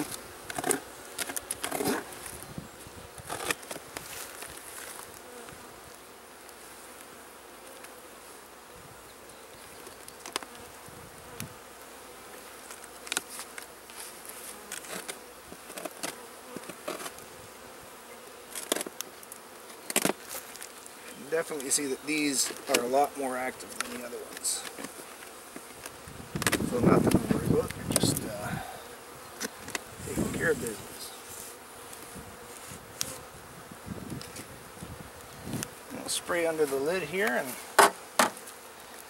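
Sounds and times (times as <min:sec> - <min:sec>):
bees buzzing: 0:00.0 - 0:39.0.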